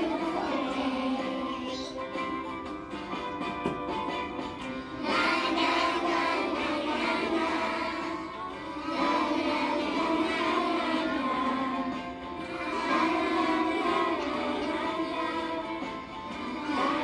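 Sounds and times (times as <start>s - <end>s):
music with singing voice: 0.0s - 17.0s.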